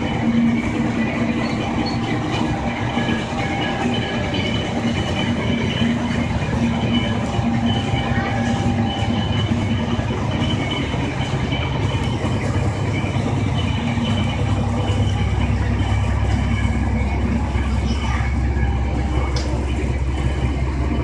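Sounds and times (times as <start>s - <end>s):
diesel railcar engine rumbling: 0.0s - 21.0s.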